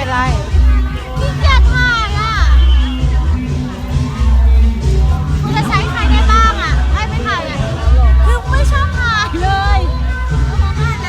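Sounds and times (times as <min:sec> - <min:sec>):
loud music with pulsing bass: 0:00.0 - 0:11.0.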